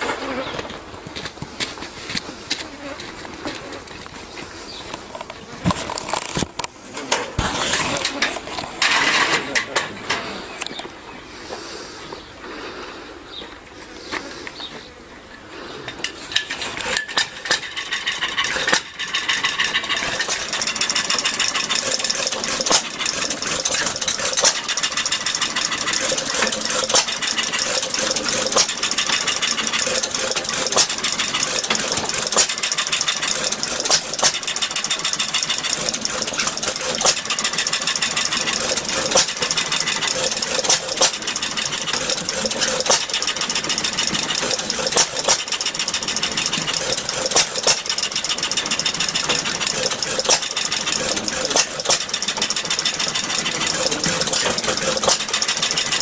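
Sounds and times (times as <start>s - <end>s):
pump engine running clatter: 0.0s - 2.6s, 3.2s - 10.8s, 15.9s - 56.0s
engine starting clicks: 5.2s - 10.8s, 16.0s - 56.0s.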